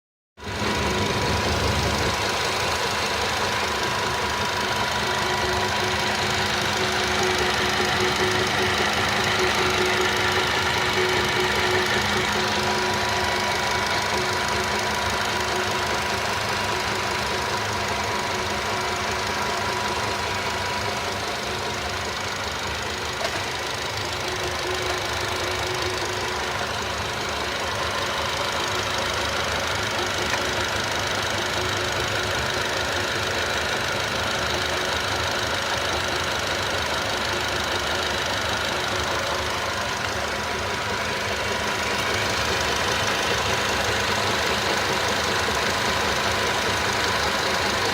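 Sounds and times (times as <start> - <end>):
car engine running: 0.4 - 47.9.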